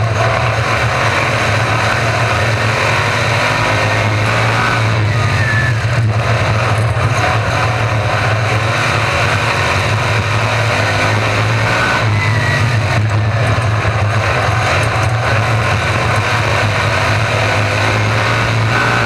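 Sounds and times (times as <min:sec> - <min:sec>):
cars passing by: 0:00.0 - 0:19.0
racing car engines: 0:00.0 - 0:19.0.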